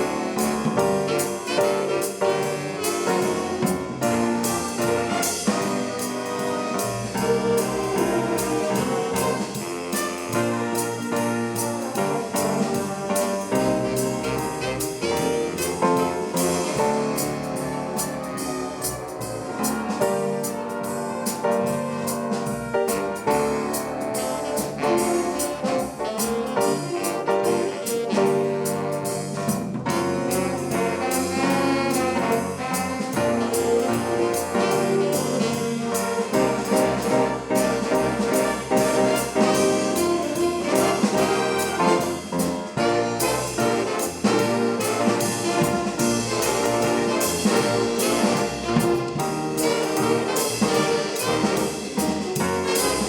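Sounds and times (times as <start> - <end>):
swing band playing jazz: 0.0 - 53.0.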